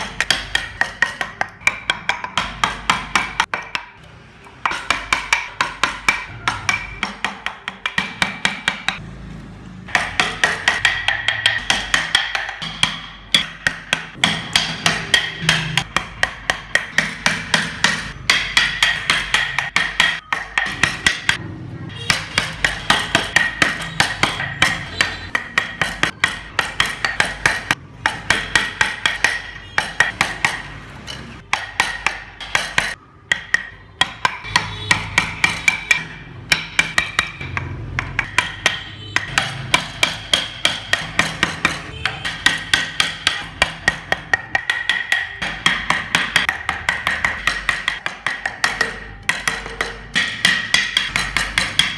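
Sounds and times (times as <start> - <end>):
hammer striking: 0.0 - 9.0, 9.9 - 51.9.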